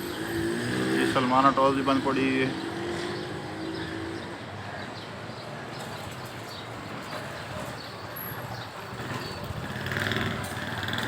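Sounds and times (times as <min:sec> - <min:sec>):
distant traffic noise: 0:00.0 - 0:11.0.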